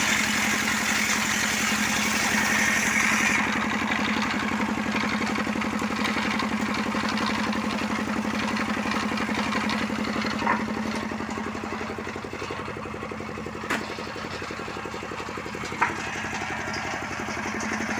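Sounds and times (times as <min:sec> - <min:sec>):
motorcycle engine idling: 0:03.0 - 0:17.9.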